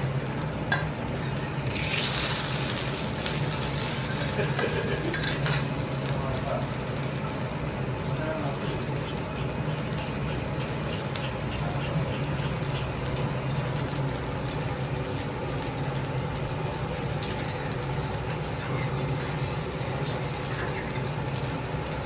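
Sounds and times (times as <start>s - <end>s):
steak sizzling on a griddle: 0.0s - 22.0s.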